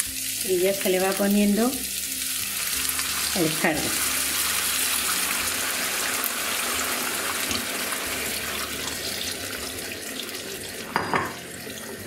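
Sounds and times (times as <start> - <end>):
broth pouring into a pan: 1.9 - 12.0.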